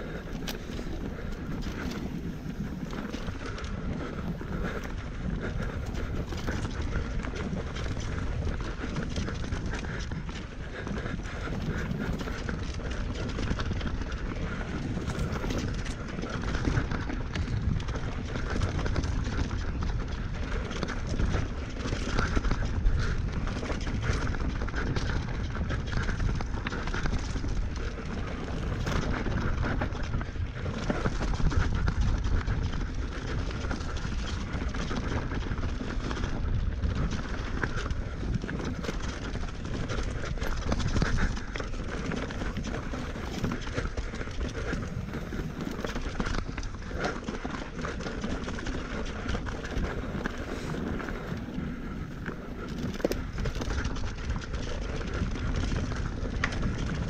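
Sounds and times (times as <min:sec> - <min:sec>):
bike tyres on dirt and rock: 0:00.0 - 0:57.0
wind on microphone: 0:00.0 - 0:57.0.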